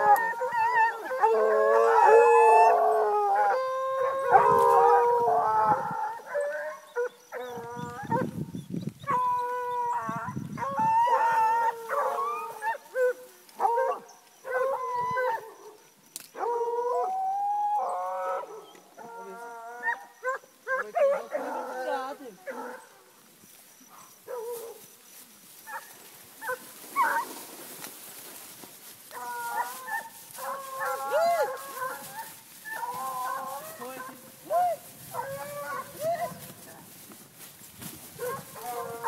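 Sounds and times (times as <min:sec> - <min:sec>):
dogs howling and yelping: 0:00.0 - 0:23.1, 0:25.6 - 0:27.4, 0:29.0 - 0:36.9, 0:38.1 - 0:39.0.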